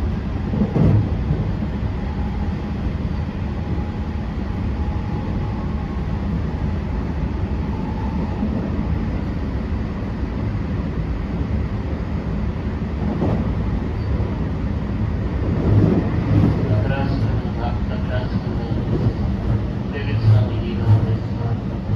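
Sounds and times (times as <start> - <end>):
train wheels rumbling on track: 0.0 - 21.9.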